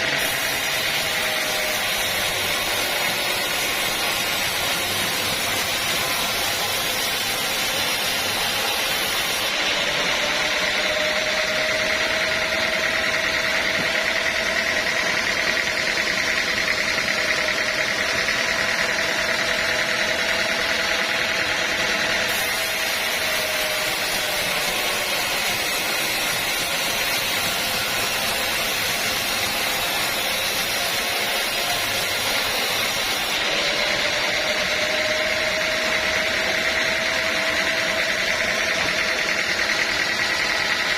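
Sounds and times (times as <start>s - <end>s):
sawmill machinery running: 0.0s - 40.9s
steady machine whine: 0.0s - 40.9s.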